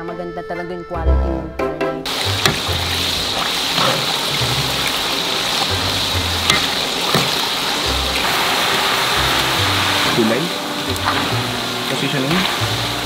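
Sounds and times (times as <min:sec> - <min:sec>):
background music with bass: 0:00.0 - 0:13.0
oil popping: 0:02.1 - 0:13.0
oil sizzling deep-frying meat: 0:02.1 - 0:13.0.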